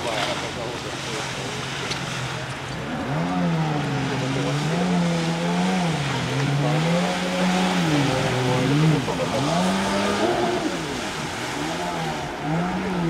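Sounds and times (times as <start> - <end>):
jet ski engine revving: 0.0 - 13.0.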